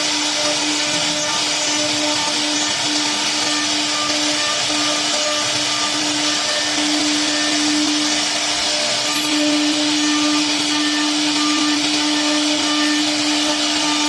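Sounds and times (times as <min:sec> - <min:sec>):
loud even hiss: 0:00.0 - 0:14.0
router spindle hum-whine: 0:00.0 - 0:14.0.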